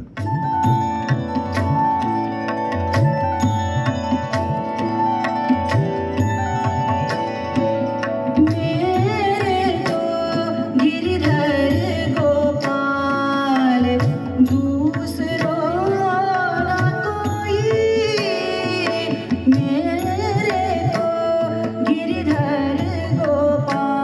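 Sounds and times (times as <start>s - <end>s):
ornamented devotional melody: 0.0s - 24.0s
tabla beat: 0.0s - 24.0s.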